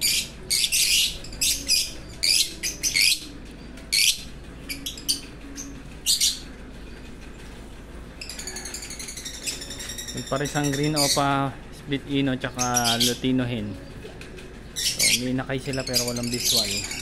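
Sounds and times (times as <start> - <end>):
lovebirds chirping: 0.0 - 6.5, 8.2 - 17.0.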